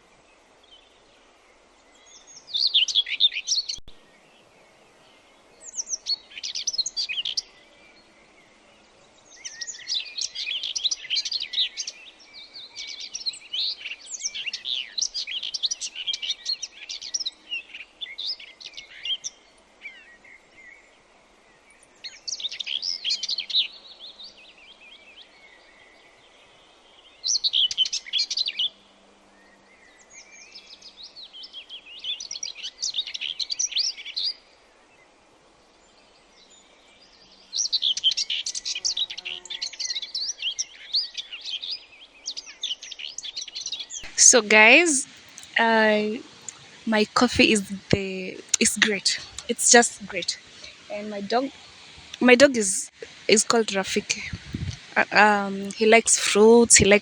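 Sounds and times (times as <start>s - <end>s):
faint steady hiss: 0.0s - 57.0s
songbird chirping: 0.0s - 57.0s.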